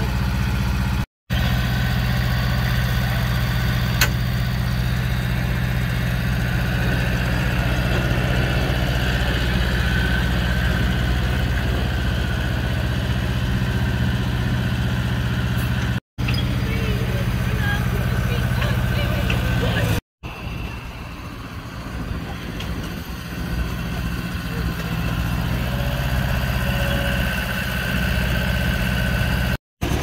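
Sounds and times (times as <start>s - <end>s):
locomotive engine idling: 0.0s - 30.0s.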